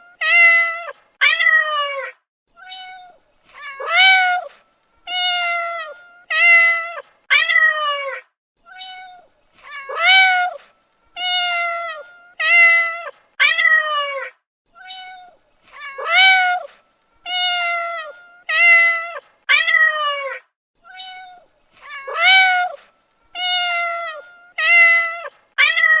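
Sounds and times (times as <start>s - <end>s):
cat meowing: 0.0s - 26.0s.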